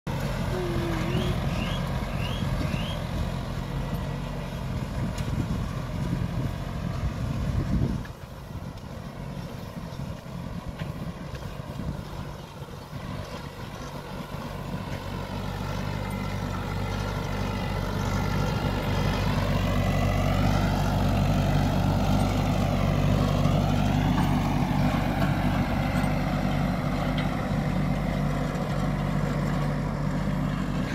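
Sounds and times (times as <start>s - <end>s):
tractor diesel engine running: 0.1s - 30.9s.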